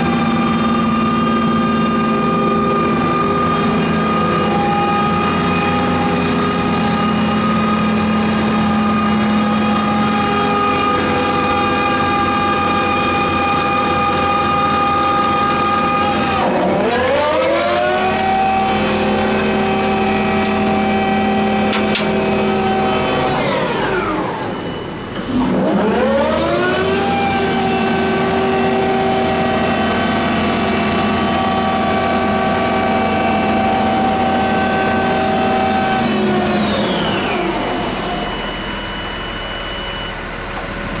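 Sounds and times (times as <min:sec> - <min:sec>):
excavator engine whine: 0:00.0 - 0:41.0.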